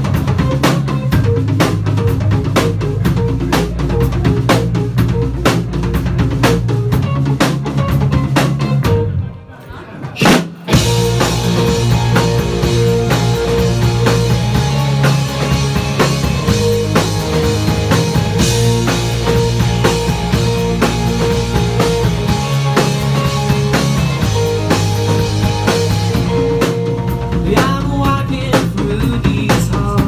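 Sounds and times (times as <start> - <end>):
bass guitar: 0.0 - 30.0
drum kit: 0.0 - 30.0
electric guitars: 0.0 - 30.0.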